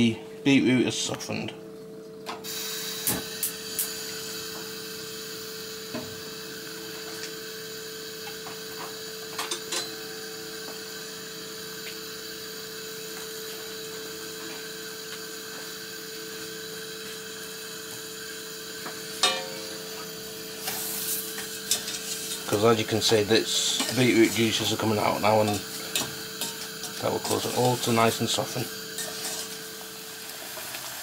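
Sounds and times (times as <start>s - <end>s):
mechanical hum with a whine: 0.0s - 31.0s.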